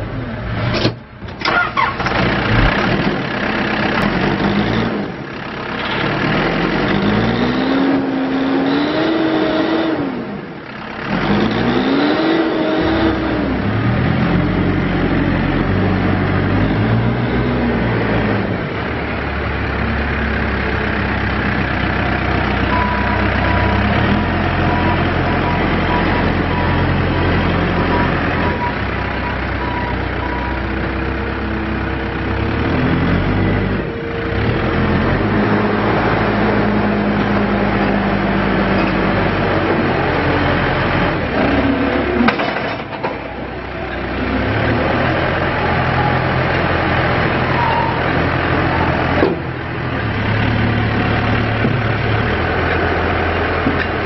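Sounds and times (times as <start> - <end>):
diesel engine under throttle: 0.0 - 54.0.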